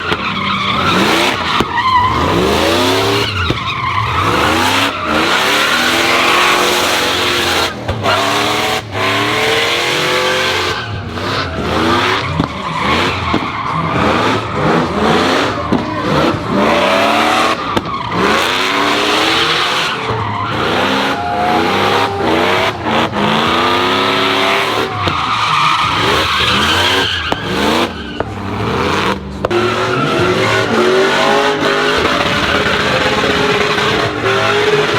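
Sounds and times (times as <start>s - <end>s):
truck engines revving: 0.0s - 34.9s
tyres screeching: 0.0s - 34.9s.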